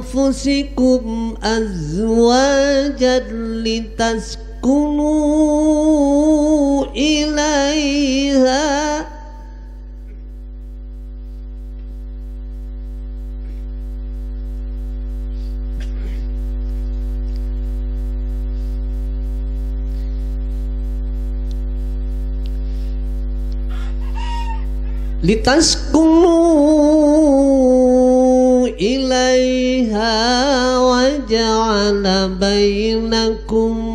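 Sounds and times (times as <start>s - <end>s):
electrical hum: 0.0s - 33.9s.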